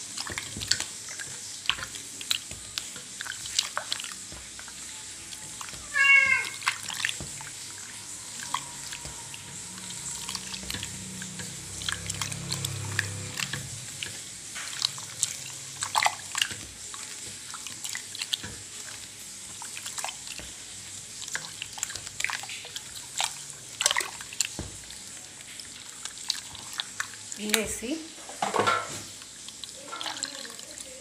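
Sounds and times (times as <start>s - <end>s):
wet squelches of pulp: 0.0s - 27.8s
small splashes: 0.0s - 27.9s, 28.9s - 31.0s
water dripping: 0.0s - 28.1s, 29.1s - 31.0s.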